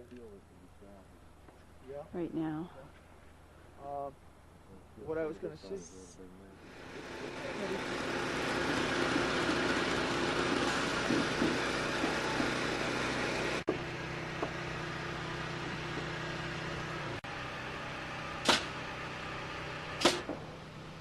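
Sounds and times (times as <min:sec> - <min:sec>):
construction machinery engine running: 0:02.9 - 0:21.0.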